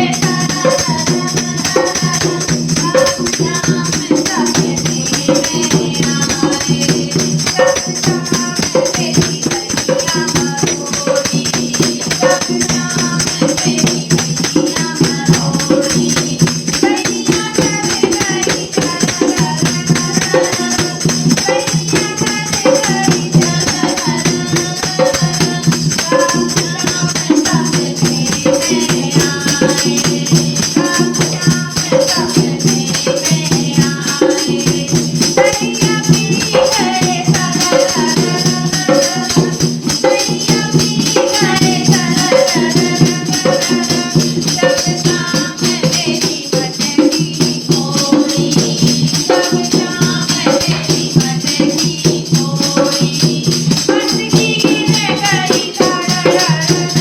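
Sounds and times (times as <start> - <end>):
rhythmic percussion beat: 0.0 - 57.0
women singing devotional song: 0.0 - 57.0.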